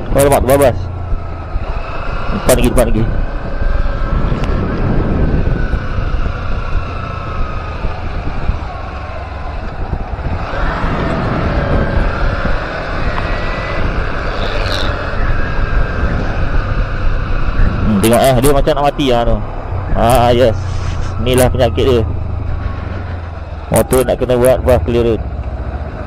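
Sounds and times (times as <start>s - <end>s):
wind rumble on microphone: 0.0s - 25.2s
motorcycle engine running: 0.0s - 26.0s.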